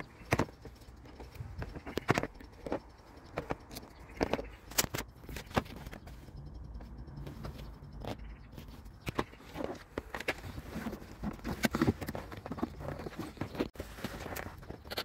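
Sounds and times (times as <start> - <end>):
hand tools and metal parts clinking: 0.0 - 15.0.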